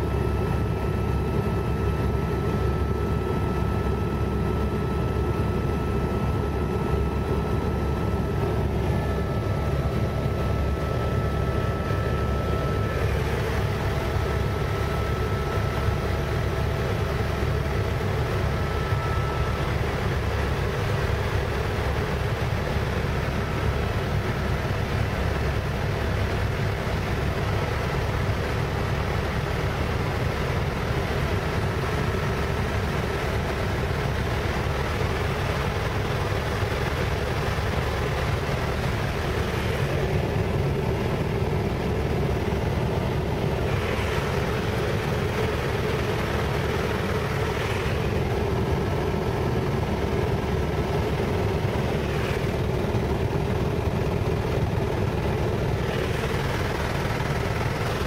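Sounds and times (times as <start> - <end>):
faint high whine: 0.0 - 58.0
helicopter engine and rotor drone: 0.0 - 58.0.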